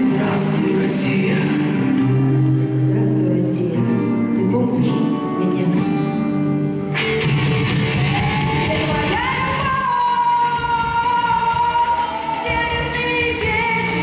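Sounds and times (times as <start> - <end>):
folk-rock song with female vocal: 0.0 - 6.5, 8.3 - 14.0.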